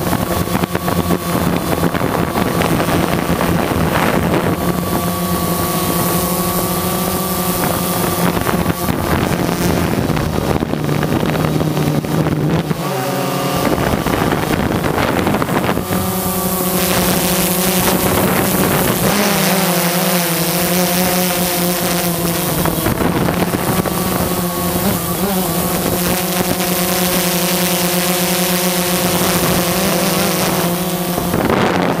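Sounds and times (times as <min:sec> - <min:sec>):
rushing air: 0:00.0 - 0:27.2
drone motors and propellers humming: 0:00.0 - 0:32.0.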